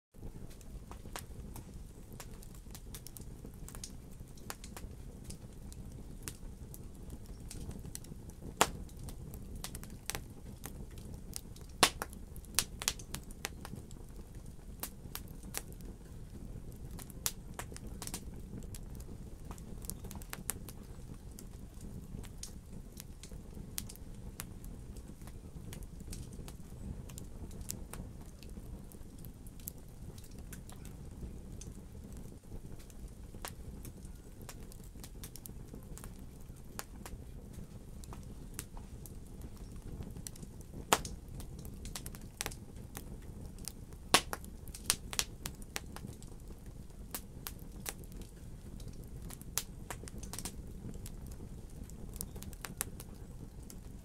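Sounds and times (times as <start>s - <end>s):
low rumble of flame: 0.1s - 54.0s
fire crackling: 0.2s - 54.0s.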